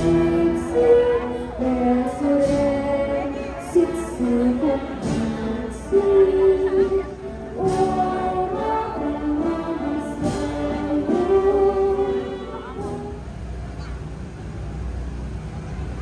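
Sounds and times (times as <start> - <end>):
girl singing a hymn: 0.0 - 13.2.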